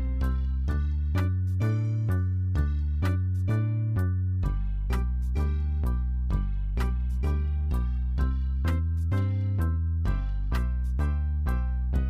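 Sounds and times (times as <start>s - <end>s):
steady bass line: 0.0s - 12.0s.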